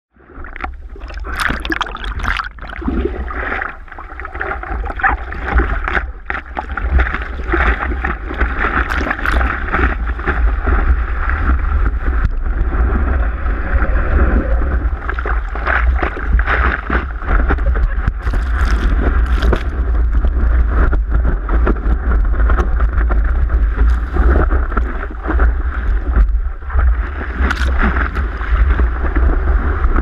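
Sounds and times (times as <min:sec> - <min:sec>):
seawater splashing and rushing: 0:00.2 - 0:30.0.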